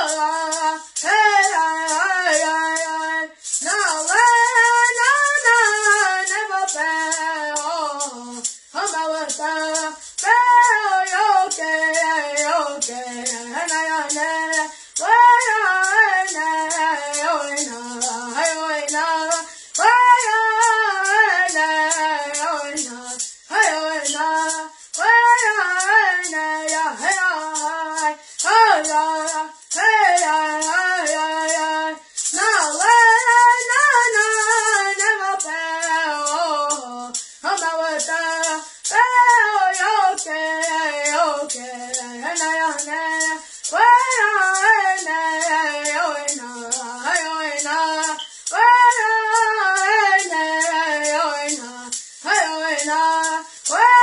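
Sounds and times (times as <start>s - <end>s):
boy singing in high voice: 0.0s - 54.0s
hand rattle shaking: 0.0s - 54.0s.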